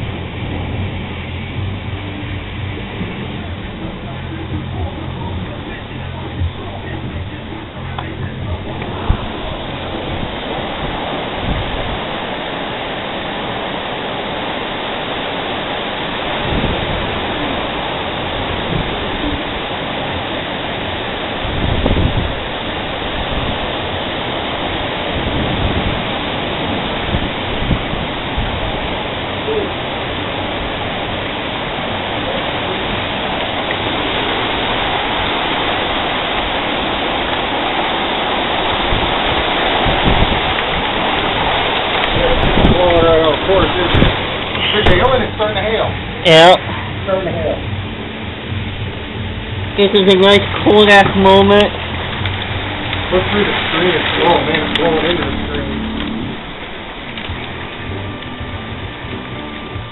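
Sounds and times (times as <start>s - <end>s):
heavy rain falling: 0.0s - 59.9s
low thunder rumbles: 0.0s - 59.9s.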